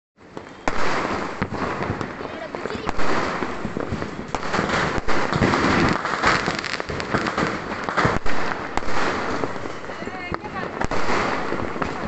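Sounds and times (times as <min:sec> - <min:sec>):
dense crackle of firecrackers: 0:00.2 - 0:12.0
fireworks bursting with sharp bangs: 0:00.2 - 0:12.0.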